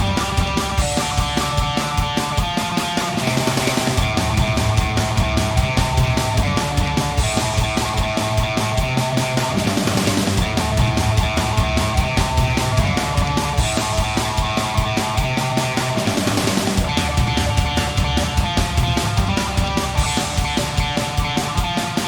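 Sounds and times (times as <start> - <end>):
distorted electric guitar: 0.0 - 22.0
driving drum beat: 0.0 - 22.0.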